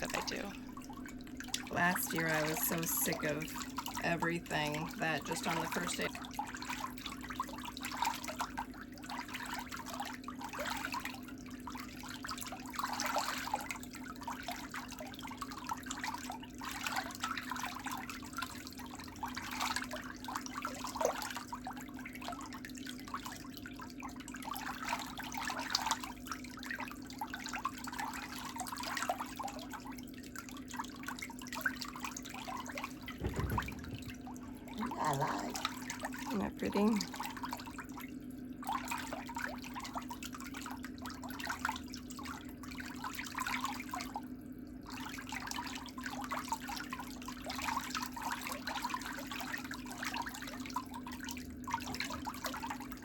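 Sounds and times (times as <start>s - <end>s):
water trickling and bubbling: 0.0s - 53.0s.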